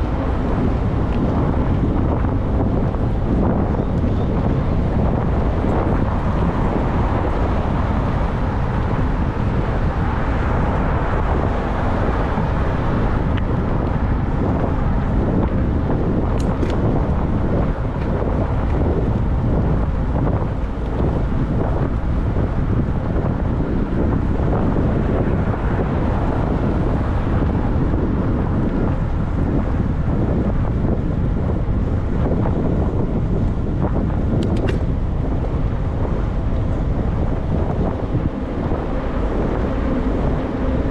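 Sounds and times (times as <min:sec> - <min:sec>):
wind rushing on microphone: 0:00.0 - 0:40.9.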